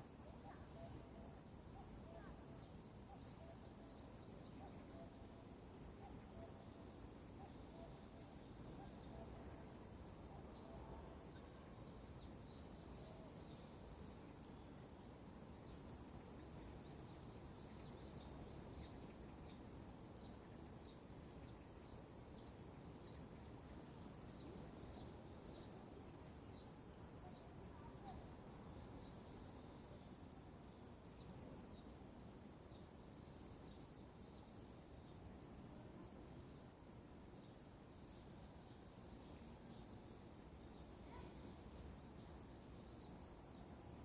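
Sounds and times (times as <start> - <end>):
faint bird chirps: 0.0 - 44.0.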